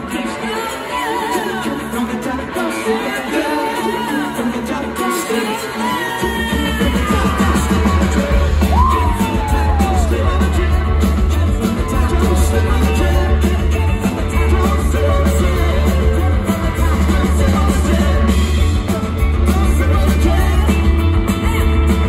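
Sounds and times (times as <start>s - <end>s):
loud rock band playing: 0.0s - 22.0s.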